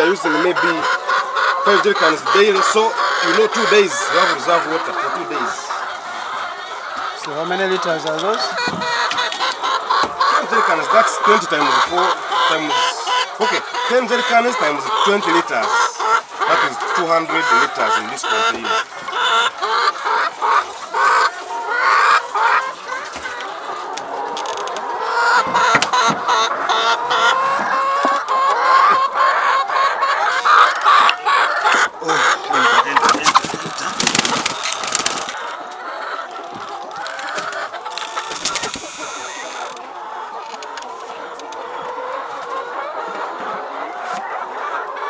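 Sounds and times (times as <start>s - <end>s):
hens clucking and squawking: 0.0s - 45.0s.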